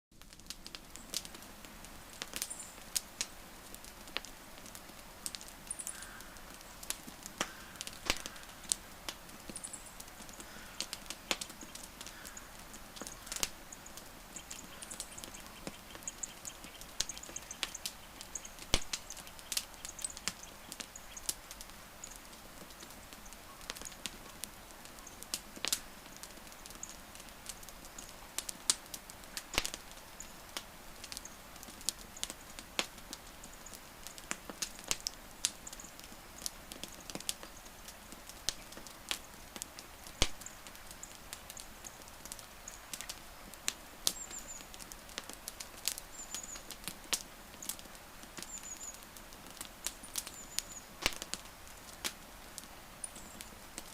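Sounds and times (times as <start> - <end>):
burning wood crackling: 0.1 - 53.9.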